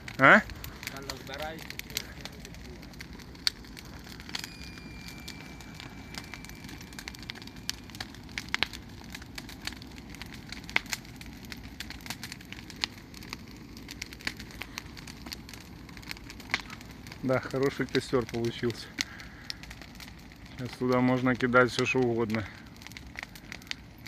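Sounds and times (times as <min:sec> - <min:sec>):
burning wood crackling and popping: 0:00.0 - 0:24.0
rush of flame: 0:00.0 - 0:24.0.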